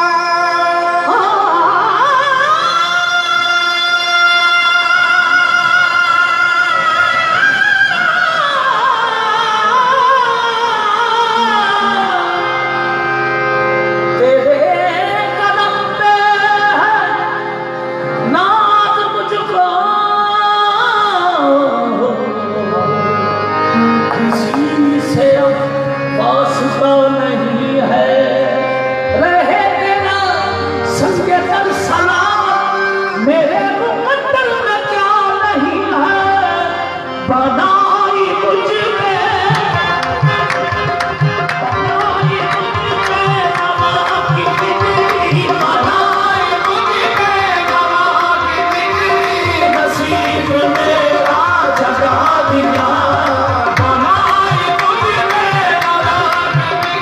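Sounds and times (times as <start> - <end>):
held accompaniment notes: 8.7 - 57.0.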